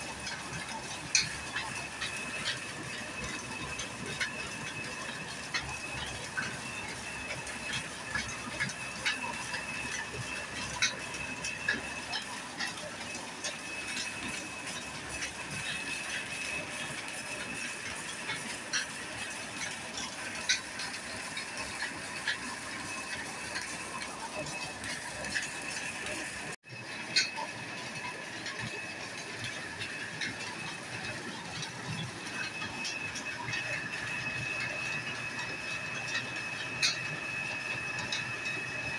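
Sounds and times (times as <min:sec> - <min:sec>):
oil expeller whine and drone: 0:00.0 - 0:38.9.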